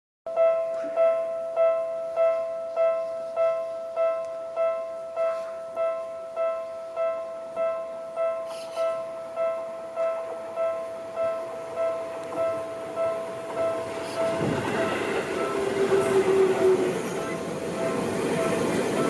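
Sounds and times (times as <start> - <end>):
electronic level crossing bell: 0.3 - 19.0.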